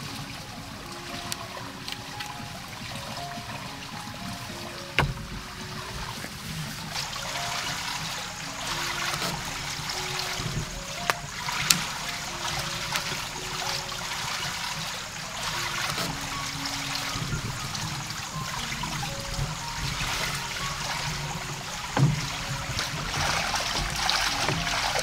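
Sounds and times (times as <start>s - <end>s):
soft instrumental music: 0.0s - 25.0s
trickling hiss: 0.0s - 25.0s.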